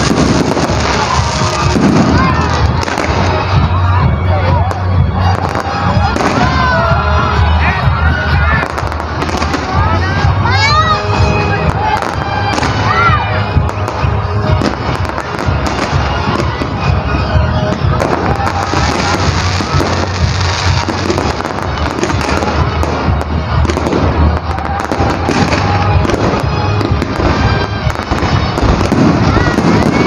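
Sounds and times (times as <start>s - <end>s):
low rumble of firework bursts: 0.0s - 10.5s, 11.1s - 30.0s
fireworks crackling and popping: 0.0s - 30.0s.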